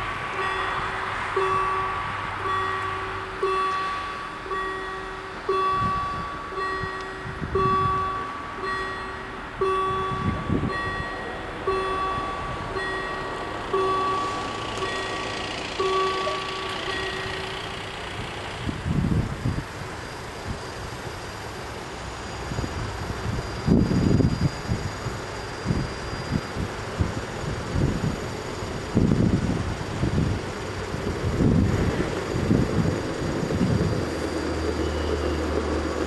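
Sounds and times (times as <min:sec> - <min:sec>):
level-crossing warning bells: 0:00.0 - 0:36.0.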